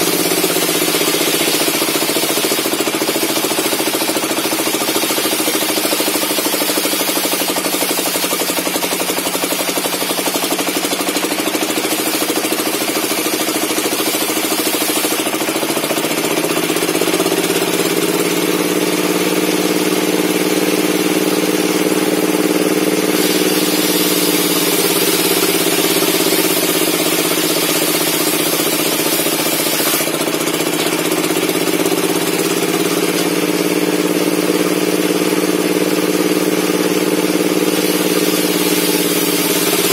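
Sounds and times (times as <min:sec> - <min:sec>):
circular saw running: 0:00.0 - 0:39.9.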